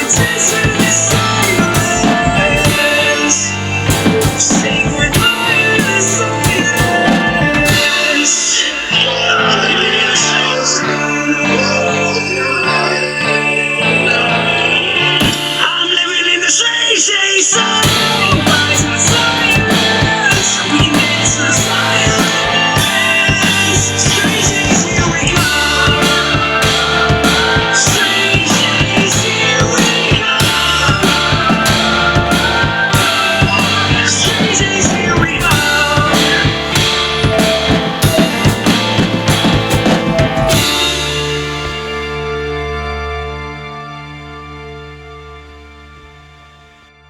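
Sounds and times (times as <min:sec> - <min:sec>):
instrumental rock music: 0:00.0 - 0:46.8.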